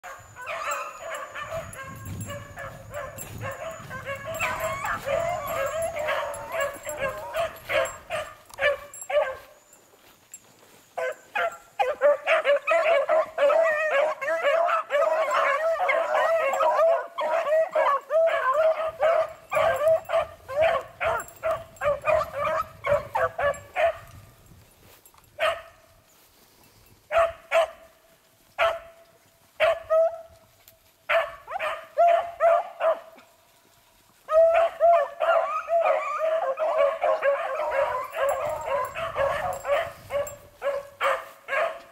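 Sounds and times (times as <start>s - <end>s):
pack of beagles baying: 0.0s - 9.9s, 10.7s - 24.2s, 27.1s - 27.9s, 31.0s - 33.3s, 34.2s - 41.9s.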